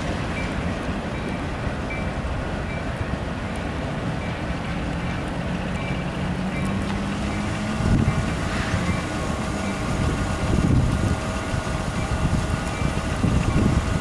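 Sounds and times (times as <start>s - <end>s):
freight train cars rolling on rails: 0.0s - 14.0s
wind buffeting microphone: 0.0s - 14.0s.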